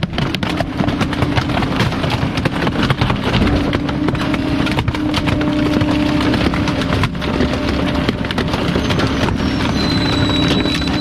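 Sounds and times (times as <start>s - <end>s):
garbage truck packer hydraulic hum: 0.0s - 11.0s
plastic cracking and clattering: 0.0s - 11.0s.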